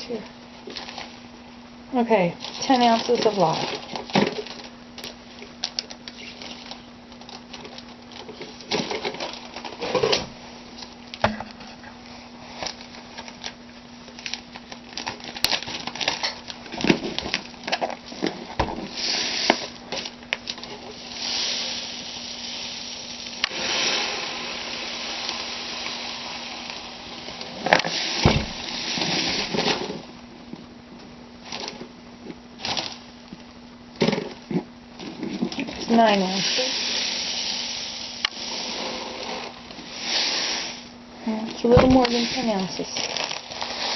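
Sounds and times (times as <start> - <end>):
steady low hum: 0.0 - 43.9
plastic bag rustling and crinkling: 0.6 - 1.3, 2.0 - 11.1, 12.1 - 22.3, 23.5 - 30.7, 31.4 - 37.3, 40.6 - 43.9.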